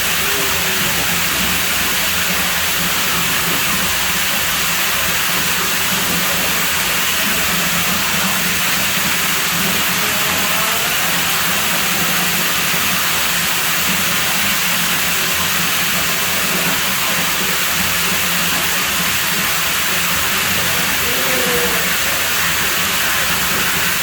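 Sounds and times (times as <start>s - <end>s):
water rushing into pool: 0.0s - 24.0s.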